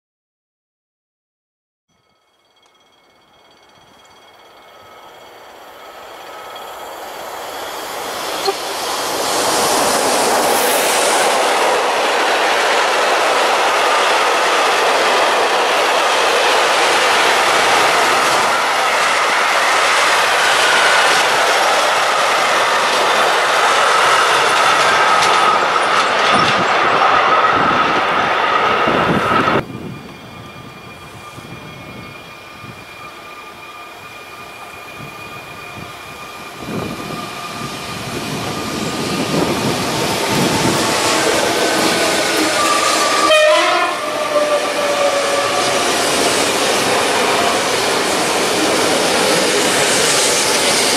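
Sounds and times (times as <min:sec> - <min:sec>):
steady high tone: 0:01.9 - 0:50.9
train wheels rushing on rail: 0:02.8 - 0:50.9.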